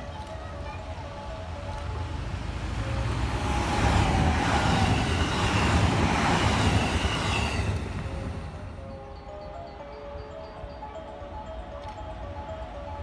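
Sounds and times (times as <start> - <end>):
electric train rumbling past: 0.6 - 13.0
train whine: 0.6 - 13.0.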